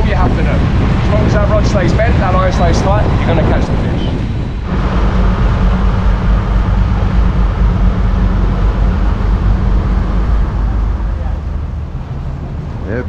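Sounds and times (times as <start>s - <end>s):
boat engine droning: 0.0s - 13.0s
water rushing along hull: 0.0s - 13.0s.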